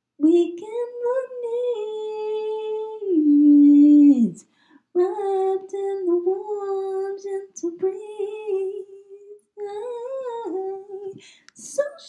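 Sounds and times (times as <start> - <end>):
woman singing unaccompanied: 0.2 - 4.4, 5.0 - 12.0.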